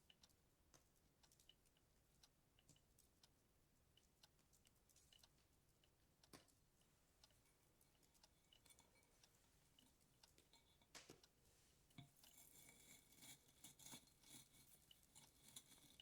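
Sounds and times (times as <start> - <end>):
faint small clicks and taps: 0.0 - 16.0.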